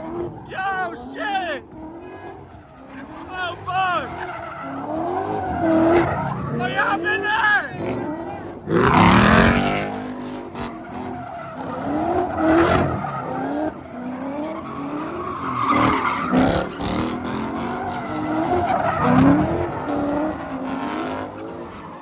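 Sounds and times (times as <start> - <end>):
car engine revving: 0.0 - 22.0
tyres squealing on pavement: 0.0 - 22.0.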